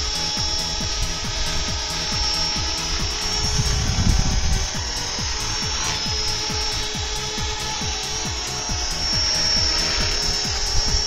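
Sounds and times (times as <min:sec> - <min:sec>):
rc helicopter motor whine: 0:00.0 - 0:11.0
rotor pulsing: 0:00.0 - 0:11.0.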